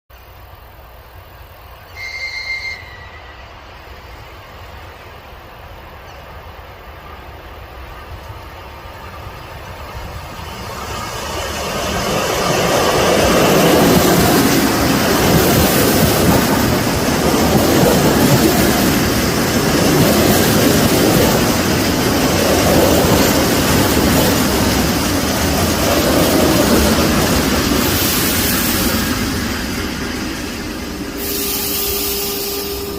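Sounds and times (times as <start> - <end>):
electric train rumbling past: 0.1 - 32.9.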